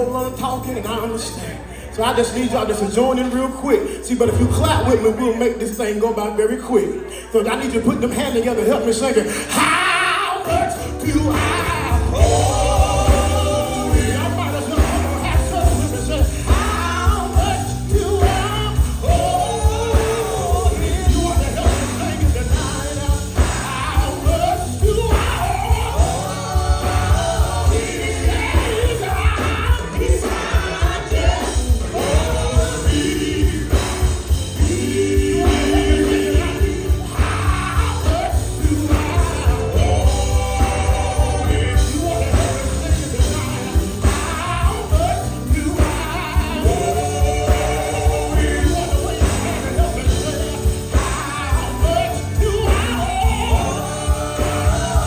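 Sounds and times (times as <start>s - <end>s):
group singing gospel with band: 0.0s - 5.8s, 6.4s - 55.0s.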